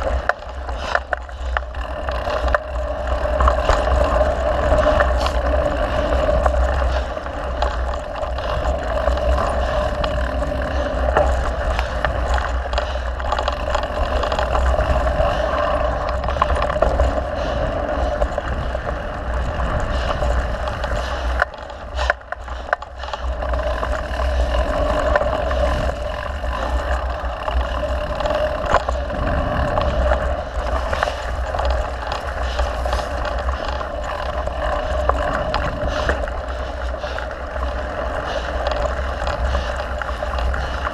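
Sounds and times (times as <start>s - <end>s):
bike rattling and clicking: 0.0s - 40.9s
bike tyres on dirt trail: 0.0s - 40.9s
wind buffeting on microphone: 0.0s - 40.9s.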